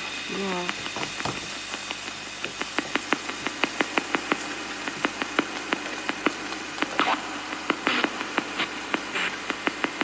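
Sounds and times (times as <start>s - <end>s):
radio static hiss: 0.0s - 10.0s
sharp clicks: 1.6s - 10.0s.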